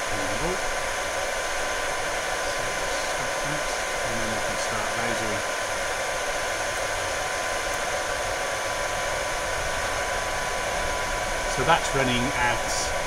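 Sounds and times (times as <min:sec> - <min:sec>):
cooling fan rushing: 0:00.0 - 0:13.0.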